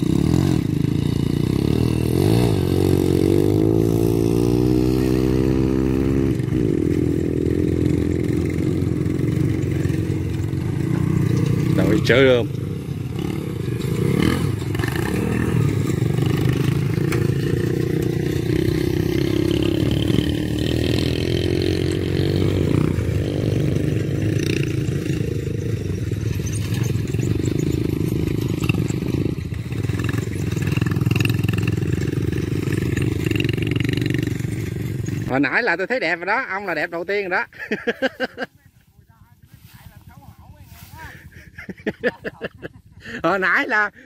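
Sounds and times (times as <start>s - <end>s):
small motorcycle engine running: 0.0s - 35.4s.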